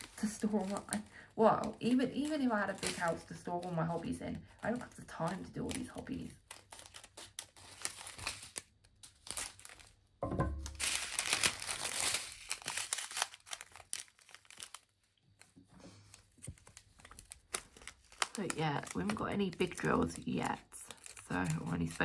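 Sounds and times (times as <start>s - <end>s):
plastic bags crinkling and tearing: 0.0s - 22.0s.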